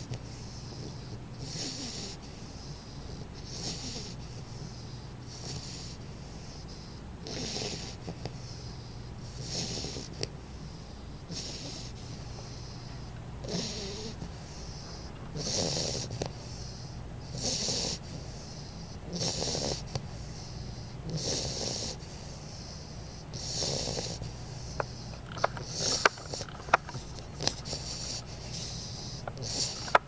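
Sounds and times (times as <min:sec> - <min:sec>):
puppy snoring: 0:00.0 - 0:30.0.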